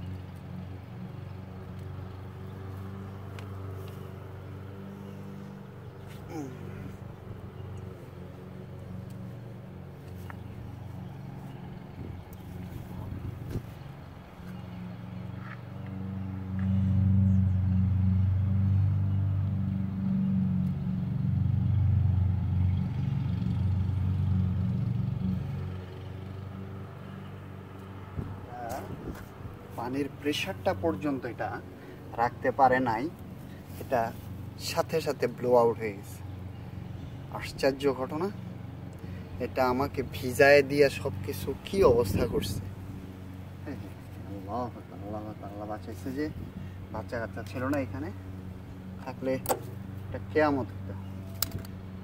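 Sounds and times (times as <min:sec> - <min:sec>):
low mechanical motor hum: 0:00.0 - 0:52.0.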